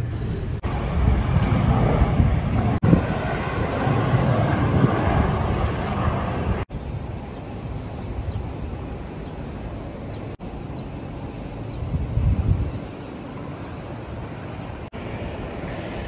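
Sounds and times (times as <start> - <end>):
rushing noise with low rumble: 0.0 - 16.0.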